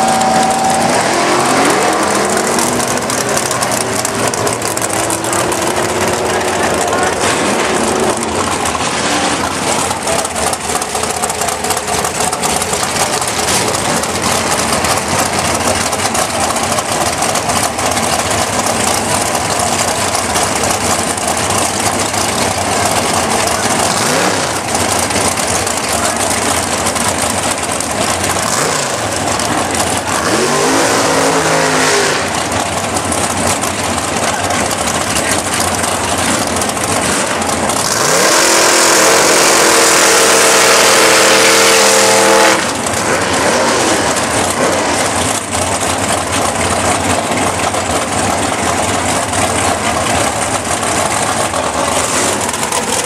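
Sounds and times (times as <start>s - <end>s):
engine revving: 0.0s - 53.0s
race car engines running: 0.0s - 53.0s.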